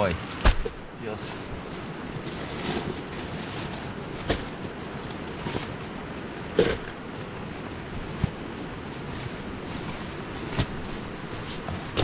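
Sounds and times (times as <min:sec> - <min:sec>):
steady rushing outdoor noise: 0:00.0 - 0:12.0
camping gear knocks and rustles: 0:00.3 - 0:12.0.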